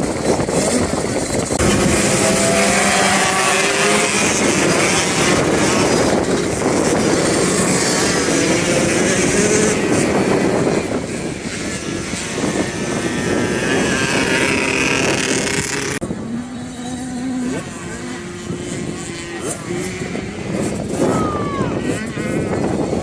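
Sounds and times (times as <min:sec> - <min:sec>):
motorbike engines revving: 0:00.0 - 0:23.0.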